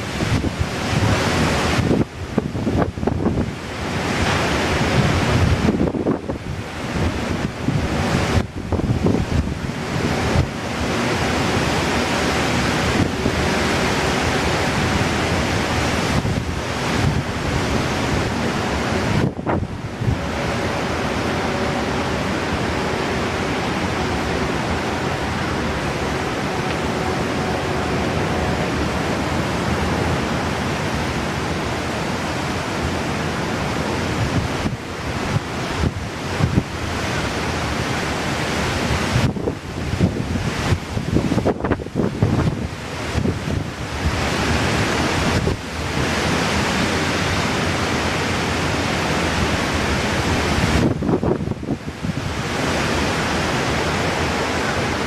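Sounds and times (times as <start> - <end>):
gusty wind on microphone: 0.0 - 55.0.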